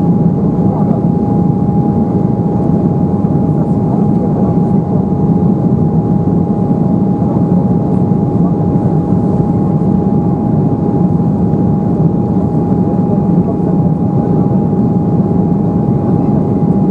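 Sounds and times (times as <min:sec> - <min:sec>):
jet cabin low rumble: 0:00.0 - 0:16.9.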